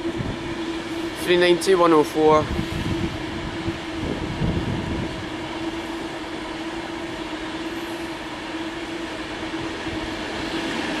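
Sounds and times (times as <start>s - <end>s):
electric train passing: 0.0s - 11.0s.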